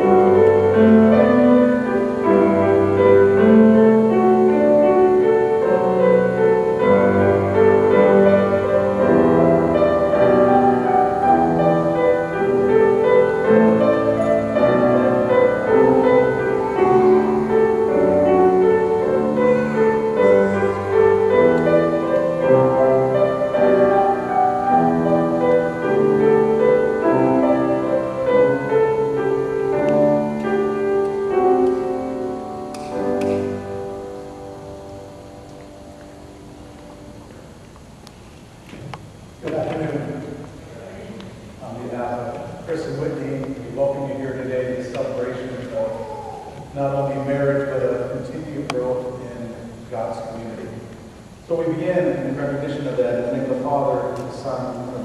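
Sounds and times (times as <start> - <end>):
slow piano piece: 0.0 - 55.0.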